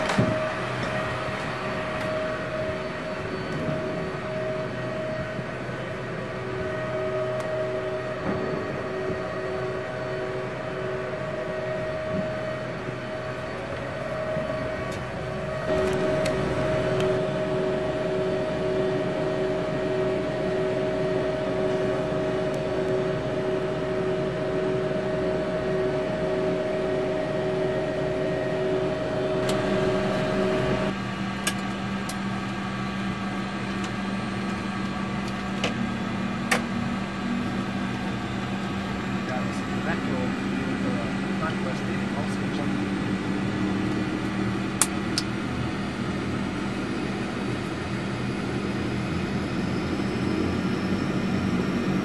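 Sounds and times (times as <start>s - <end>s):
turboprop engines droning: 0.0s - 52.0s.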